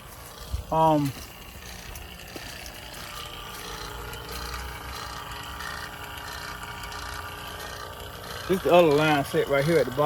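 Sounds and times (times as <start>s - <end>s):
faint steady tones: 0.0s - 10.0s
machine humming: 0.0s - 10.0s.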